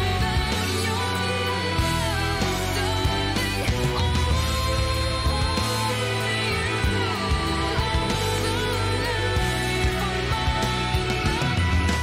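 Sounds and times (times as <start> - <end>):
song with a steady beat: 0.0 - 12.0.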